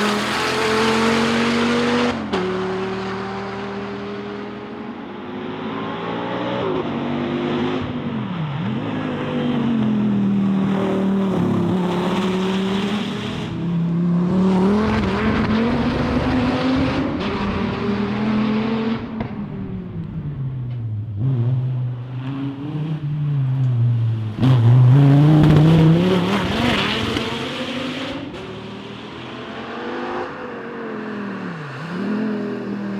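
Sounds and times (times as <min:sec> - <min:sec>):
car engine accelerating hard: 0:00.0 - 0:32.9.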